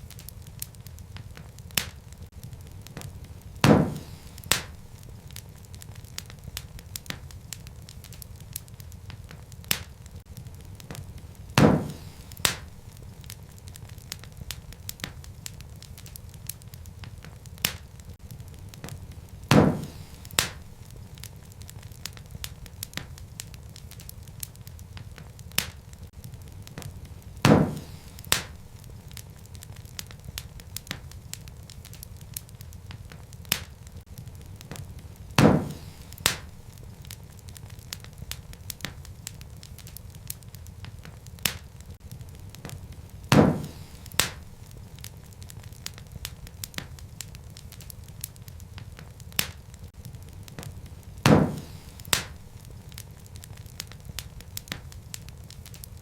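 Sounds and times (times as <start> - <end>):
loud pops from fire: 0.0 - 56.0
wood fire crackling: 0.0 - 56.0.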